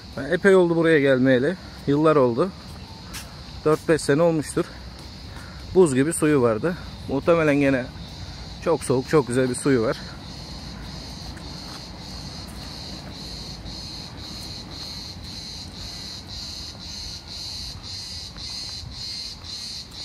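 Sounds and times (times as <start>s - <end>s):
cicadas buzzing in chorus: 0.0s - 20.0s.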